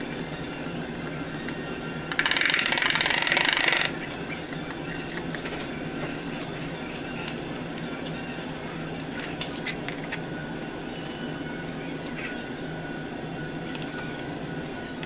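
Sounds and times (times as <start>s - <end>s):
workshop background: 0.0s - 15.0s.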